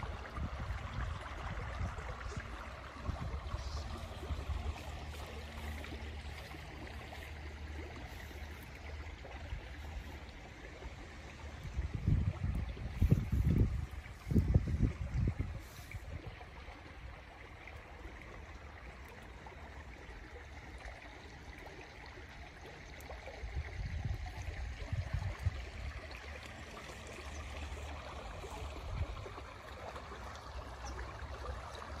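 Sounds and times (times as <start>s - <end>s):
stream flowing over stones: 0.0s - 32.0s.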